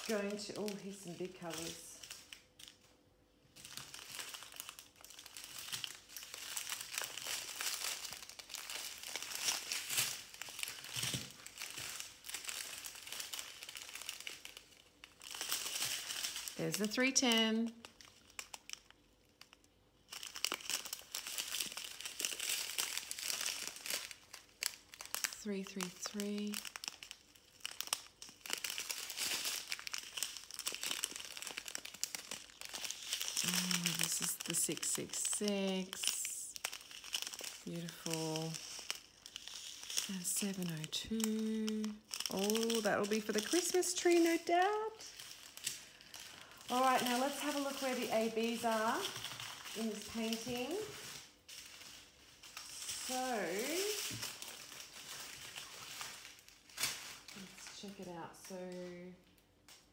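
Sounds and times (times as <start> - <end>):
thin plastic crinkling: 0.0 - 59.9.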